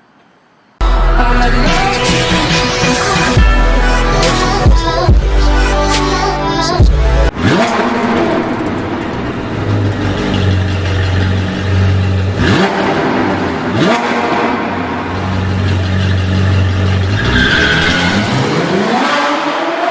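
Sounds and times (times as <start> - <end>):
car engine revving: 0.8 - 19.9.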